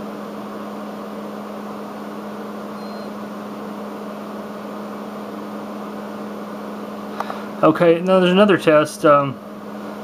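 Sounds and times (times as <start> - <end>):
cooling fan hum: 0.0 - 10.0.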